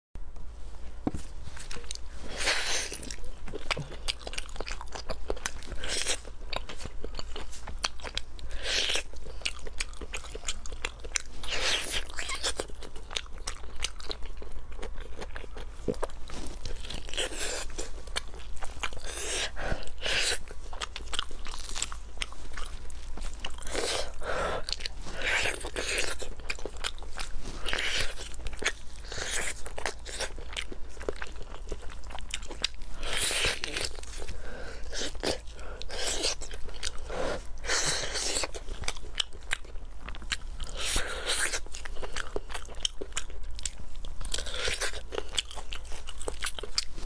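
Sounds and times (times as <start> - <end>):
biting and chewing meat: 1.6 - 47.0.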